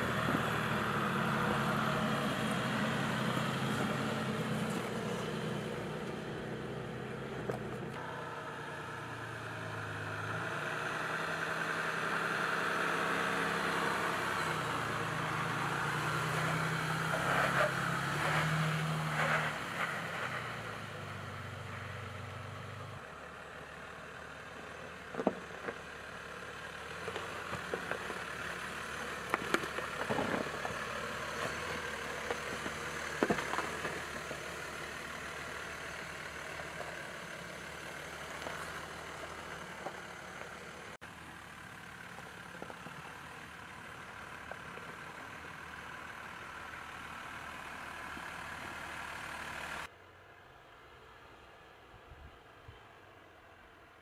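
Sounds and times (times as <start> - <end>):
diesel engine running at low revs: 0.0 - 49.9.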